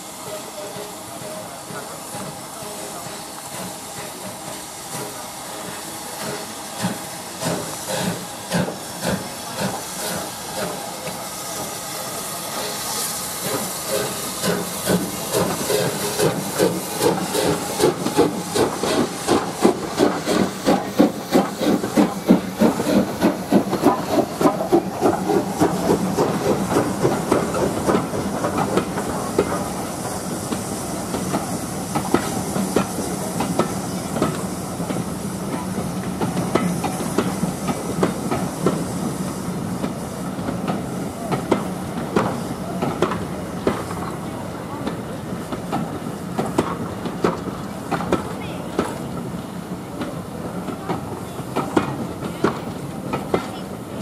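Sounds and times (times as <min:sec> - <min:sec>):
steam hissing: 0:00.0 - 0:54.0
steam locomotive exhaust beats: 0:00.0 - 0:54.0
train coaches rumbling: 0:00.0 - 0:54.0.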